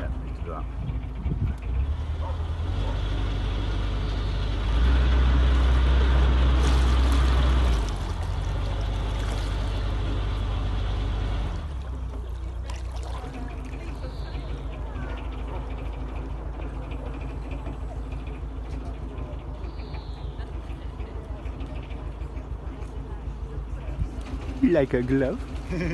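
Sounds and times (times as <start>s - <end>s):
boat diesel engine running: 0.0s - 25.9s.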